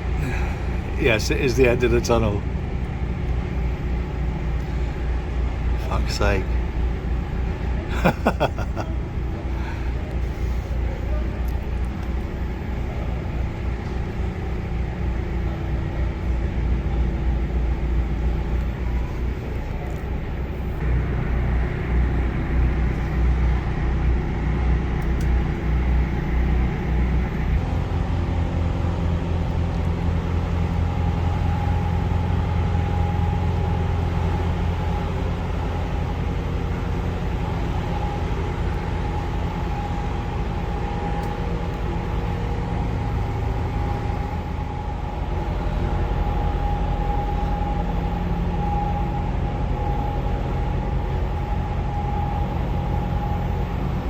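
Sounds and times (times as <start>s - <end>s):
boat diesel engine throbbing: 0.0s - 54.0s.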